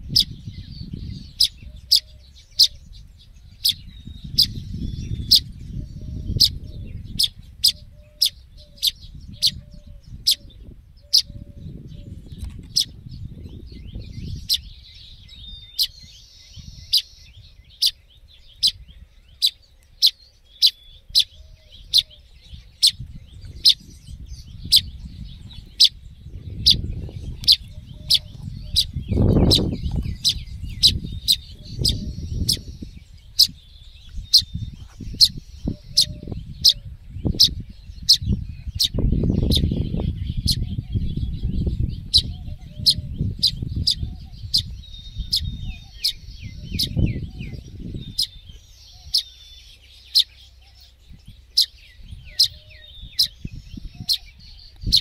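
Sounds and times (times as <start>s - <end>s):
fledgling bird chirping: 0.0s - 55.0s.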